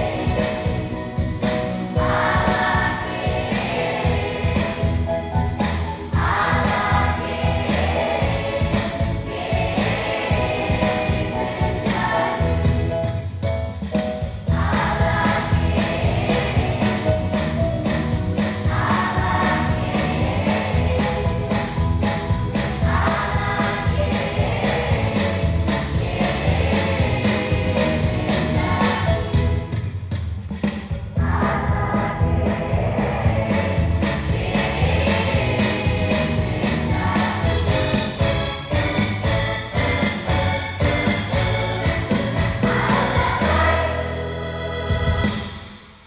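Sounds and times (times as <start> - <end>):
children's choir singing: 0.0 - 13.2, 14.4 - 29.6, 31.2 - 45.7
instrumental backing with bass: 0.0 - 45.7.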